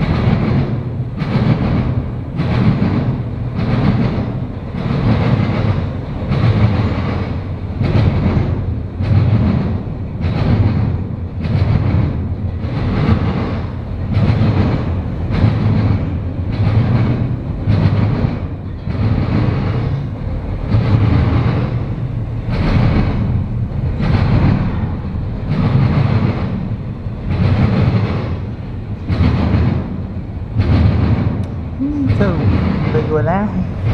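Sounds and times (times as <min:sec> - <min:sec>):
train wheels clattering over rails: 0:00.0 - 0:33.9.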